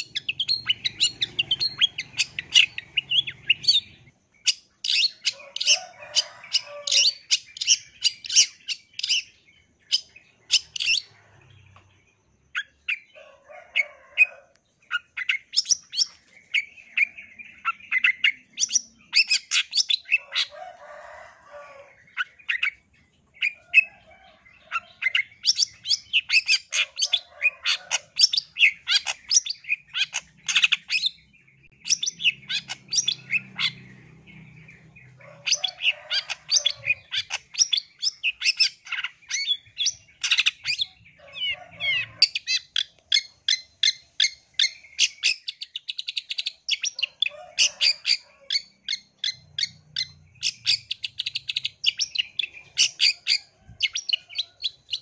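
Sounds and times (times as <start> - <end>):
bird chirping: 0.0 - 55.0.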